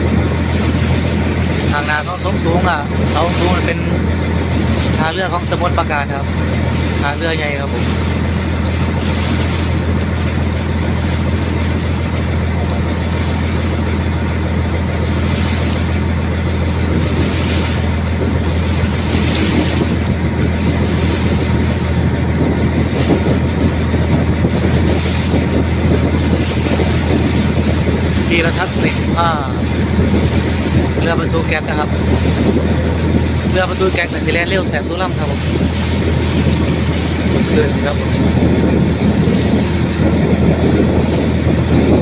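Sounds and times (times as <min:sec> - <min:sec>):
boat engine droning: 0:00.0 - 0:42.0
rushing water: 0:00.0 - 0:42.0
wind noise: 0:00.0 - 0:42.0.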